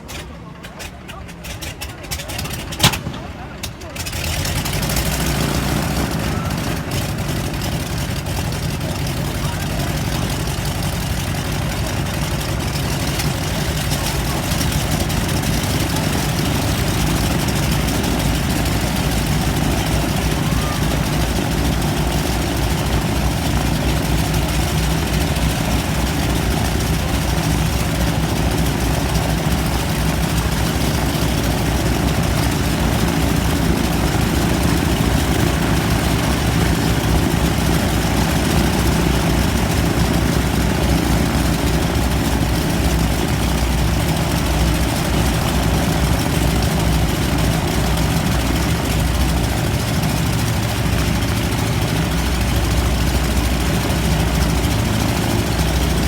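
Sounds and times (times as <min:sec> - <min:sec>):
aircraft radial engines running: 0:00.0 - 0:56.0.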